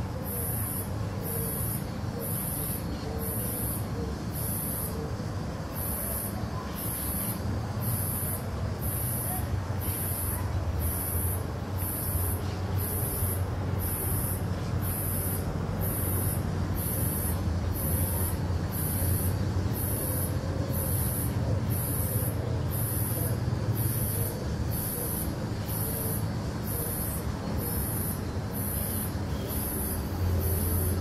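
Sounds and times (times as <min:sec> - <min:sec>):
distant street traffic: 0:00.0 - 0:31.0.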